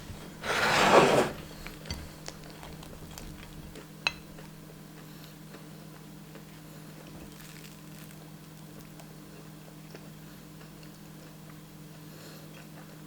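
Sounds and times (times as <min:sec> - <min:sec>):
soft eating sounds: 0:01.3 - 0:13.0.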